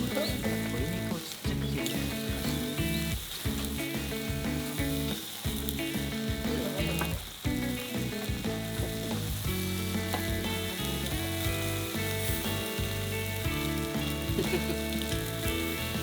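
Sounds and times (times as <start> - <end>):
food sizzling on a grill: 0.0 - 16.0.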